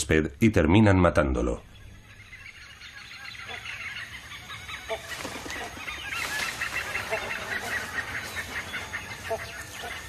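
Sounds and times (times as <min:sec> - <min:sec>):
hornbills calling: 0:01.6 - 0:10.0.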